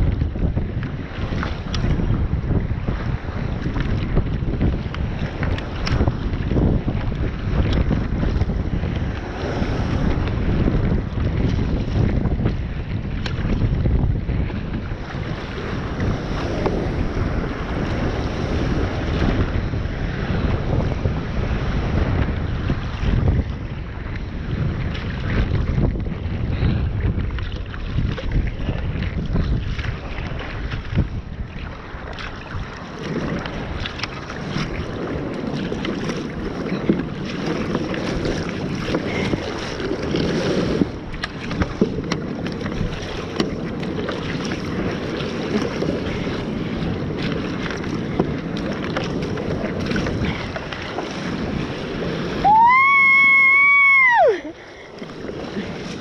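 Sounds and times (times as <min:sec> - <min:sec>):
water rushing against hull: 0:00.0 - 0:56.0
wind buffeting microphone: 0:00.0 - 0:56.0.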